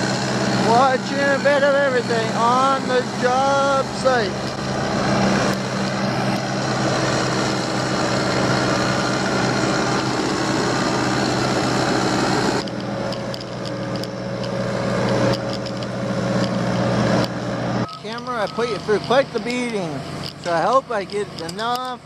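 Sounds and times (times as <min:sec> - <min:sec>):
diesel construction machinery running: 0:00.0 - 0:22.0.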